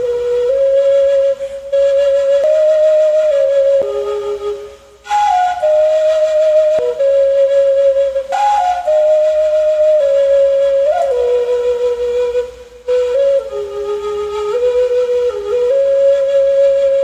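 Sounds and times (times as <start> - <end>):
slow flute melody: 0.0 - 17.0.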